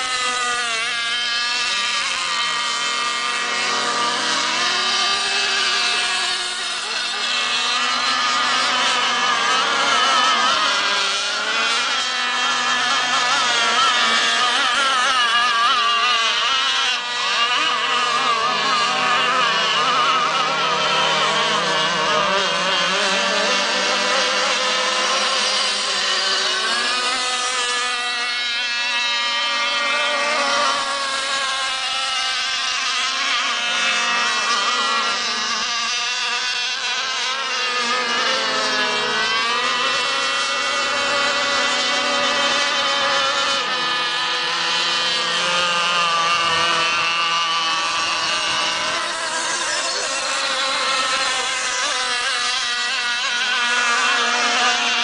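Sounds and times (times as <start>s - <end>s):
model boat engines whining: 0.0s - 55.0s.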